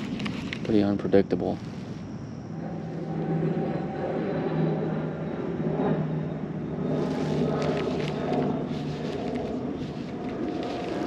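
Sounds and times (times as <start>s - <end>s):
low rumble with faint hum: 0.0s - 11.0s.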